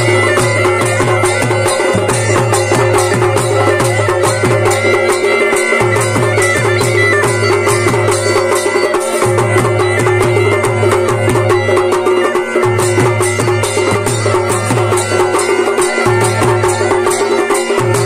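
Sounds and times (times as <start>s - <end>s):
bagpipes playing: 0.0s - 18.0s.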